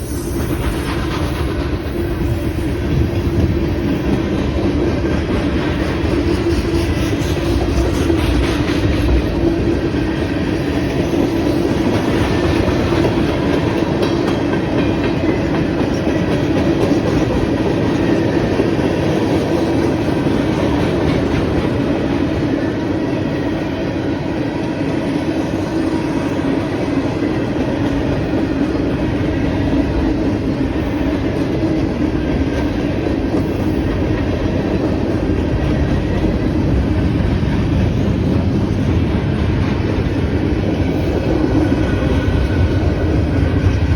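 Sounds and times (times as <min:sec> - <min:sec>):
freight train wheels rumbling: 0:00.0 - 0:43.9.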